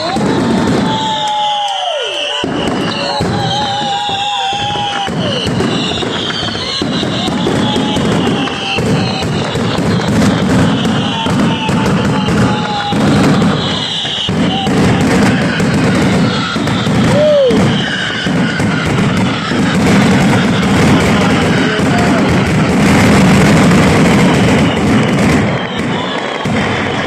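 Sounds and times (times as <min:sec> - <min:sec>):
fireworks crackling bangs: 0:00.0 - 0:27.0
whistling fireworks: 0:00.0 - 0:27.0.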